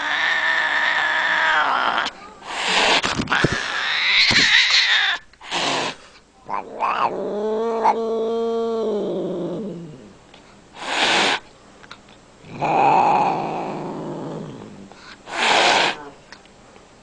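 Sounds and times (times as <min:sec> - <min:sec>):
cat hissing: 0:00.0 - 0:10.1, 0:10.8 - 0:11.5, 0:12.4 - 0:16.2
cat growling yowl: 0:00.0 - 0:10.2, 0:12.4 - 0:16.2.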